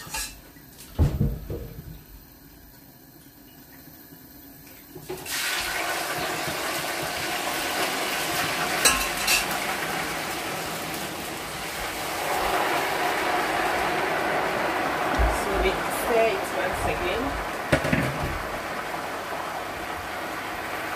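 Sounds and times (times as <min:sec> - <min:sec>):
stew bubbling in a pot: 0:00.0 - 0:20.9.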